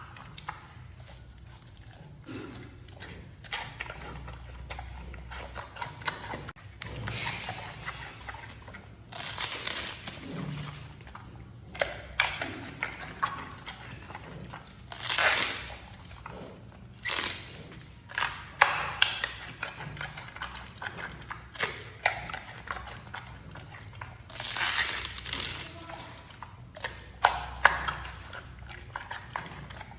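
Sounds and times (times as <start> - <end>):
panda chewing bamboo: 0.0 - 29.9.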